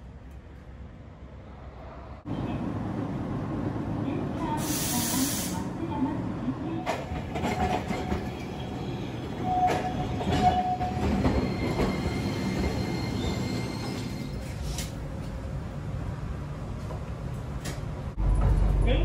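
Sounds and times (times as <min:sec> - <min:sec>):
streetcar rumbling on rails: 0:00.0 - 0:19.0.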